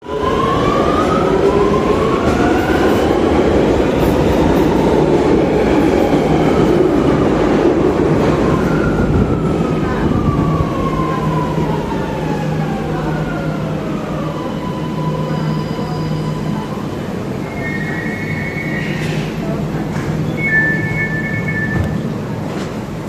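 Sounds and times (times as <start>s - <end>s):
train rumble: 0.0s - 23.0s
train whine: 0.0s - 23.0s.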